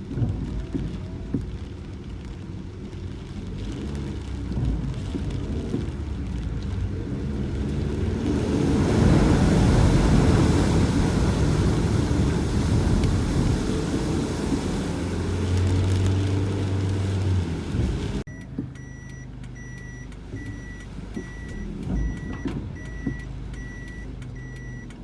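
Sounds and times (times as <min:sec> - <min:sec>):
car engine and road noise: 0:00.0 - 0:25.0
rain hissing and water spray: 0:00.0 - 0:25.0.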